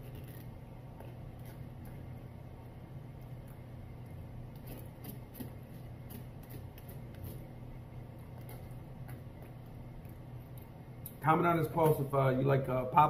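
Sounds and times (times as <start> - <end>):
soft chewing: 0.0 - 11.2
steady low hum: 0.0 - 13.0.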